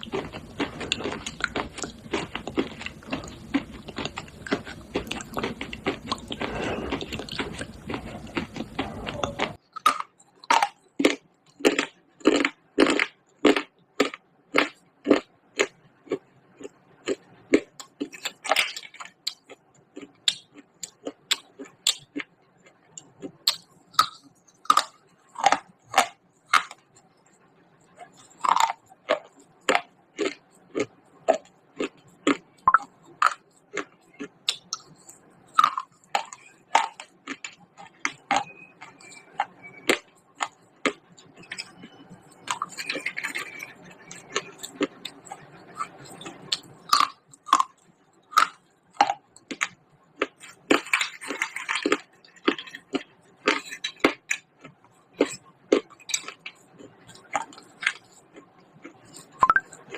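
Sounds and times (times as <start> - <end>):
person crunching and chewing clay: 0.0 - 59.9.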